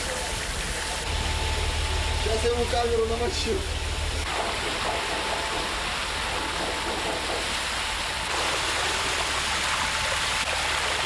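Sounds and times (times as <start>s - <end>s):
hose water splashing on wooden deck: 0.0s - 11.0s.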